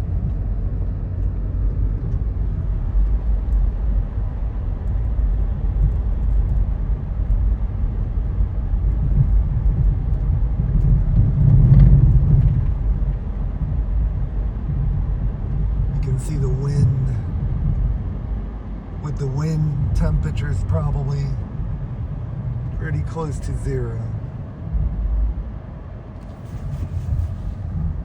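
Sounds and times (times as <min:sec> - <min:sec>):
car cabin road and engine noise: 0:00.0 - 0:28.0.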